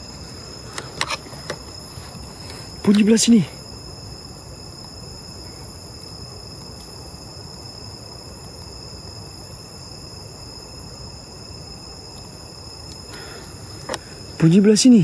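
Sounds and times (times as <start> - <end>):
low even hiss: 0.0 - 15.0
night insects trilling: 0.0 - 15.0.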